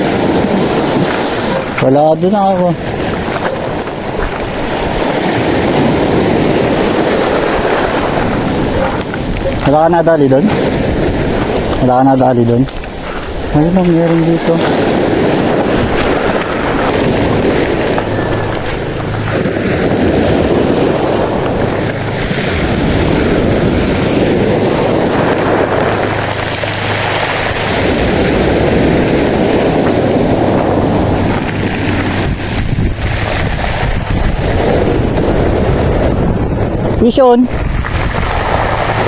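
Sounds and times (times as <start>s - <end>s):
sea surf rushing: 0.0s - 39.0s
wind buffeting microphone: 0.0s - 39.0s.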